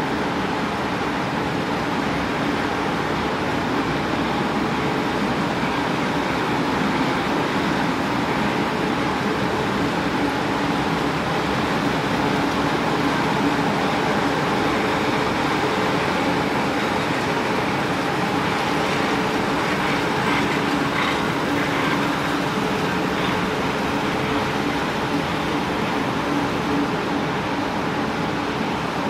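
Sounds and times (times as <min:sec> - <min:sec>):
rolling mill machinery humming: 0:00.0 - 0:29.0.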